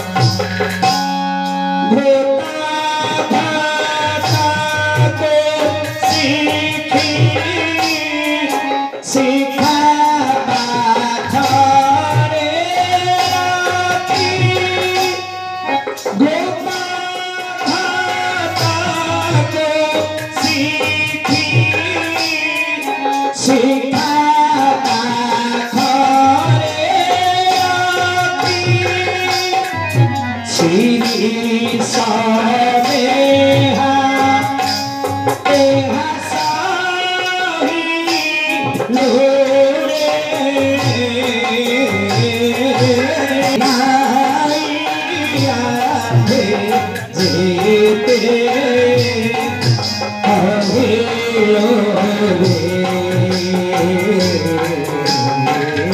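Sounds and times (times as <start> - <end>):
barrel drum rhythm: 0.0 - 55.9
keyboard accompaniment: 0.0 - 55.9
person singing amplified: 0.0 - 55.9.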